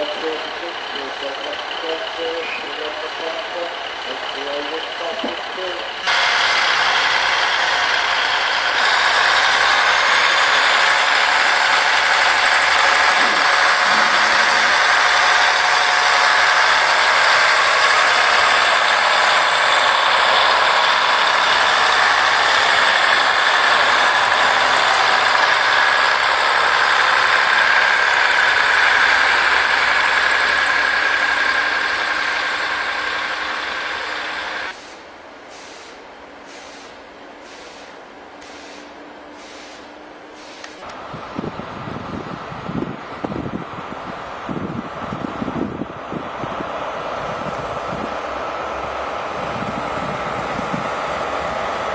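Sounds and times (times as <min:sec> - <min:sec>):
diesel train passing slowly: 0:00.0 - 0:51.9
train whine: 0:00.0 - 0:51.9.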